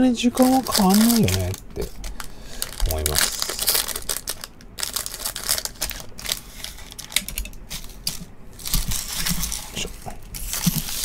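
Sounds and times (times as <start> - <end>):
foil packs crinkling: 0.3 - 11.0.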